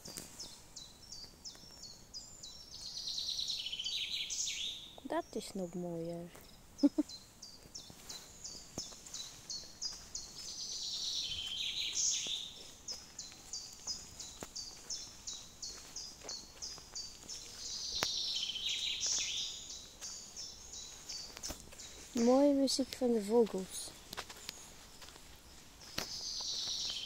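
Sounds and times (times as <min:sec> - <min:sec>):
rapid birdsong: 0:00.0 - 0:27.0.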